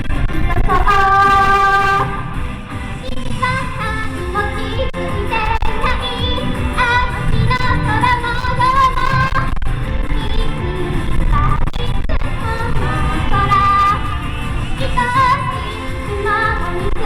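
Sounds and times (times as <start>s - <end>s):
pop backing track: 0.0s - 17.0s
woman singing: 0.3s - 2.3s, 3.0s - 17.0s.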